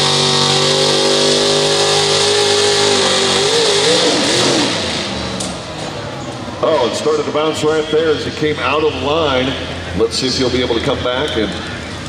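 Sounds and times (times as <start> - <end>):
truck engine revving high: 0.0 - 12.0.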